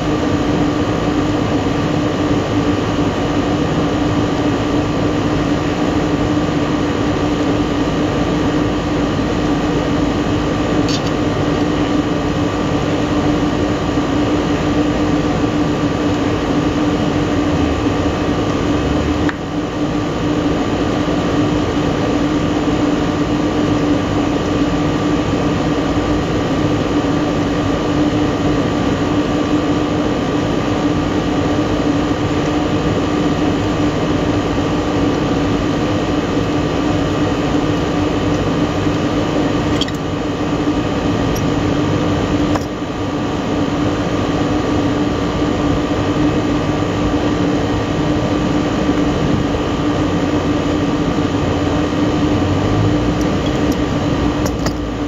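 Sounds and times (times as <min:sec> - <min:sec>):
rooftop machinery drone: 0:00.0 - 0:55.0.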